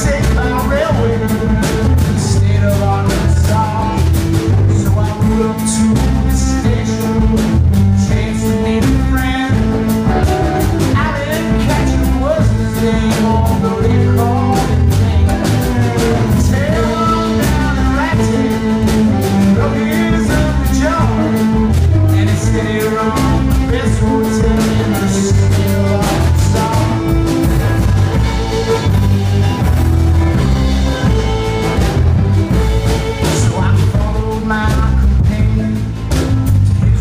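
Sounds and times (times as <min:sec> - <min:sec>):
fiddle: 0:00.0 - 0:37.0
folk-country band playing: 0:00.0 - 0:37.0
man singing: 0:00.0 - 0:37.0.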